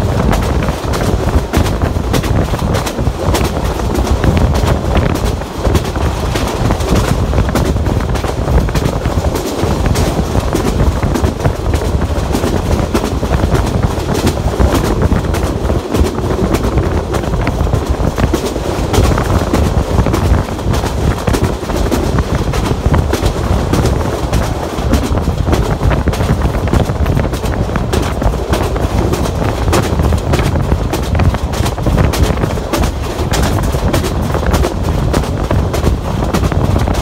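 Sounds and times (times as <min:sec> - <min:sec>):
track clicks and clatter: 0:00.0 - 0:37.0
train wheels rumbling on rail: 0:00.0 - 0:37.0.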